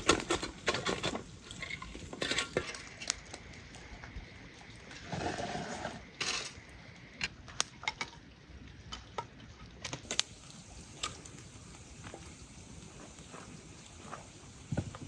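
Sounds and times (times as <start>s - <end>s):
firewood sticks knocking and clattering: 0.0s - 12.4s.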